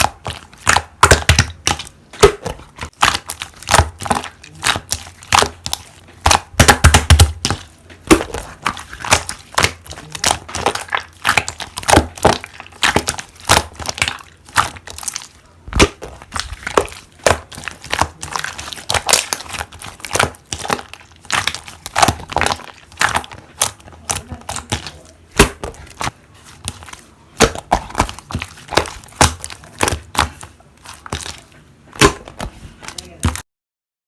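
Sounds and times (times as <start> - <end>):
slime squished by hand: 0.0 - 33.4.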